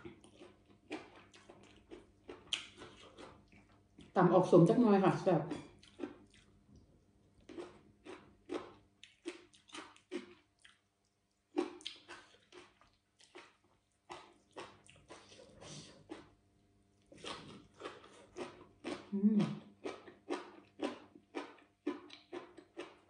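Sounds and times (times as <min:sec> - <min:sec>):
wet crunchy chewing: 0:00.0 - 0:04.2, 0:05.8 - 0:06.6, 0:07.4 - 0:16.4, 0:17.0 - 0:23.0.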